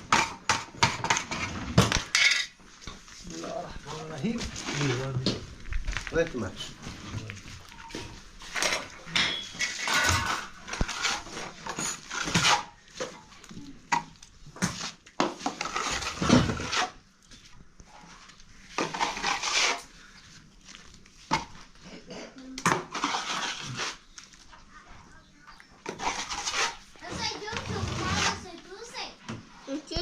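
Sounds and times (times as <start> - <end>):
hard objects clattering and scraping: 0.0 - 17.0, 17.8 - 20.0, 20.7 - 25.1, 25.8 - 30.0.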